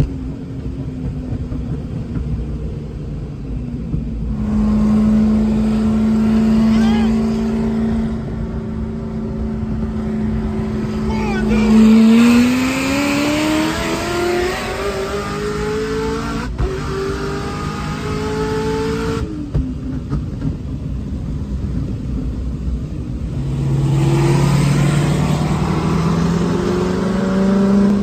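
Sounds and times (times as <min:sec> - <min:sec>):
car engines at full throttle: 0:00.0 - 0:28.0.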